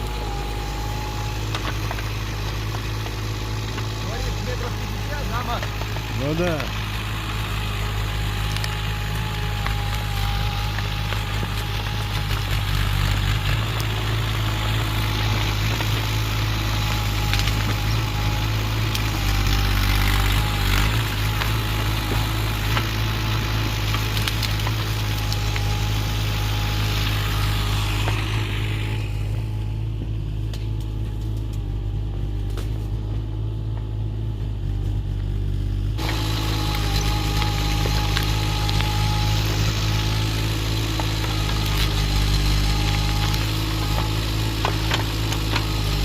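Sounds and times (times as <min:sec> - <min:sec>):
sharp cracks: 0:00.0 - 0:33.9, 0:35.8 - 0:46.0
excavator diesel engine running: 0:00.0 - 0:46.0.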